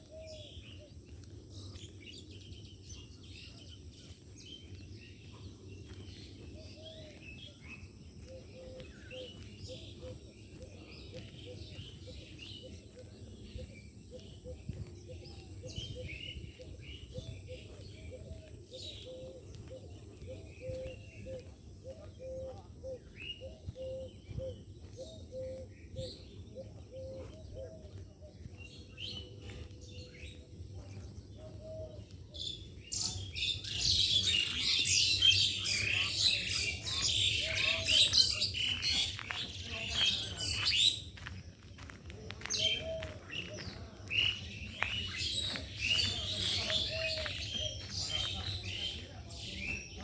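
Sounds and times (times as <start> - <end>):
birds calling low notes: 0.0 - 50.0.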